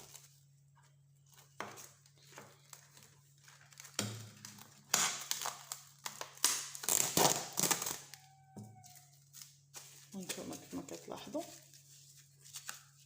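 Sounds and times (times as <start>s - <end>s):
plastic wrapper crinkling: 1.2s - 13.0s.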